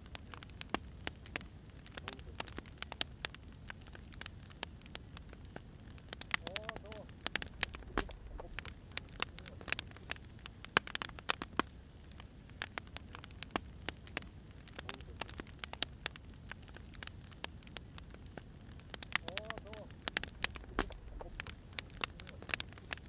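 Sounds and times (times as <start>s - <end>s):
firewood popping and snapping: 0.0s - 23.0s
low rumble of flames: 0.0s - 23.0s.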